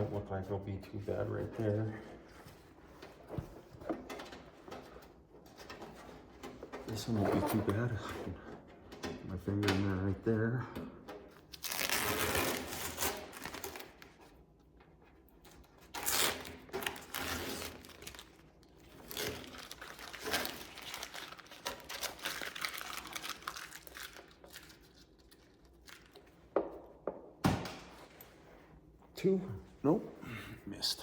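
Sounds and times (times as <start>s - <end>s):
rustling and scraping of parts: 0.0s - 10.0s, 10.7s - 27.0s, 27.8s - 30.2s.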